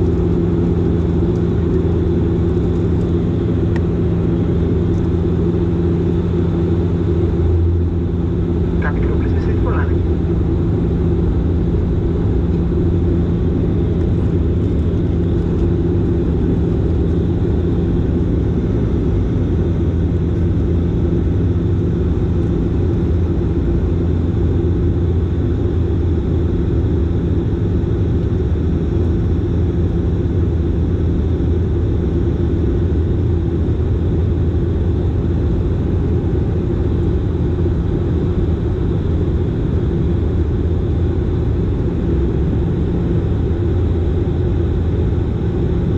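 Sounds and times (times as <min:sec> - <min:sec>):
turboprop engines droning: 0:00.0 - 0:45.9.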